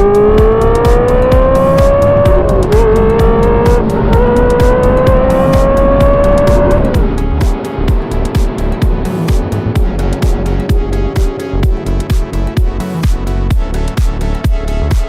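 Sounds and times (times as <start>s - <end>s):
car engine accelerating: 0.0s - 14.8s
music with steady beat: 0.0s - 15.0s.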